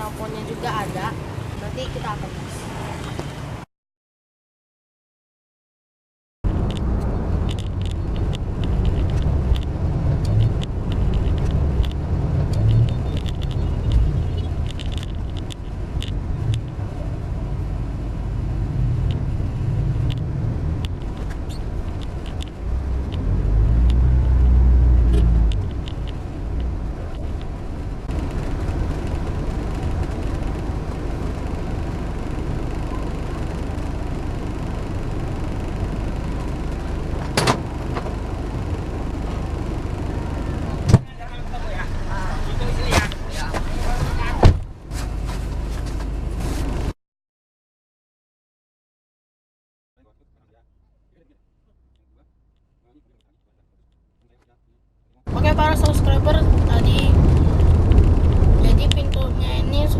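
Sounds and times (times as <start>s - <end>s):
car driving rumble: 6.4s - 46.9s, 50.0s - 59.9s.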